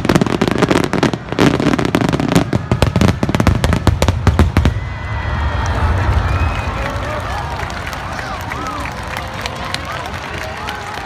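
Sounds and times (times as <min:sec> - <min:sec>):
fireworks bursts and crackles: 0:00.0 - 0:11.0.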